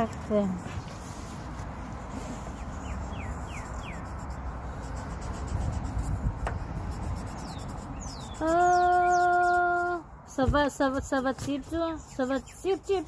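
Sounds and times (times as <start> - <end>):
marker scratching on eggshell: 0.0 - 10.0, 10.8 - 13.0.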